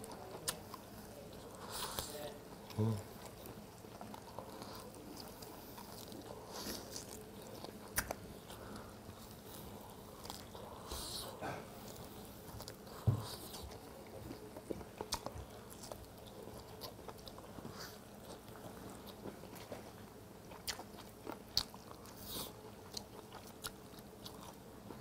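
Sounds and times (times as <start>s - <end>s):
chewing with wet smacks: 0.0s - 25.0s.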